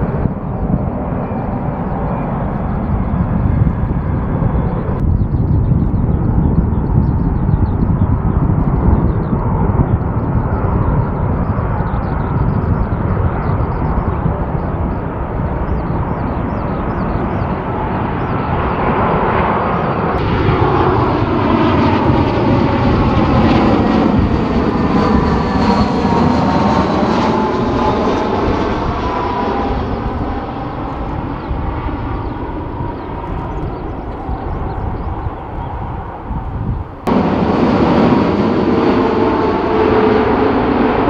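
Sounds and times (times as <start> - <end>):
jet airliner passing: 0.0 - 41.0.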